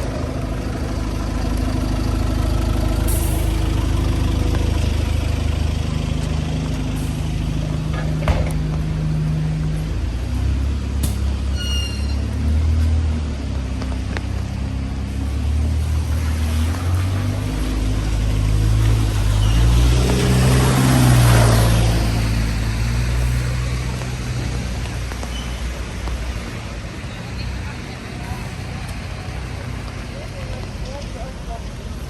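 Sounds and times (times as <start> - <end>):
heavy vehicle engine running low: 0.0 - 32.0
tyres hissing on wet road: 0.0 - 32.0.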